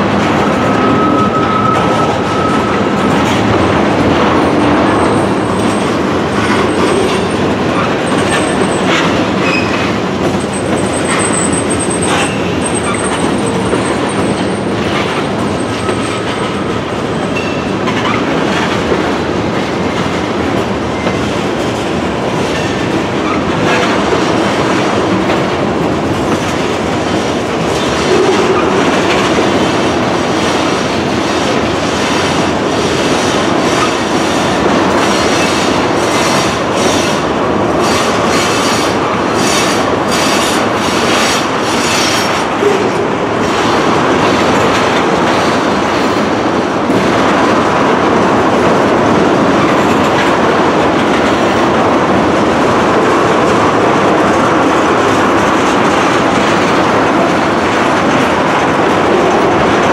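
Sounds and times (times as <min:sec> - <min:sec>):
train wheels rumbling on rail: 0:00.0 - 0:59.9
wheel clacks over rail joints: 0:00.0 - 0:59.9.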